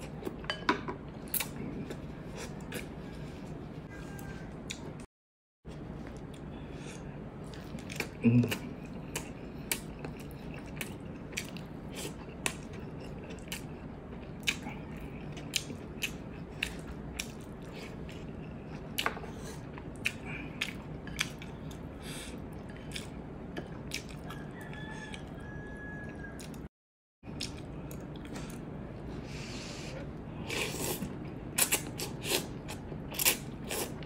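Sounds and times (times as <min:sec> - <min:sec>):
low room hum: 0:05.7 - 0:26.7, 0:27.3 - 0:34.0.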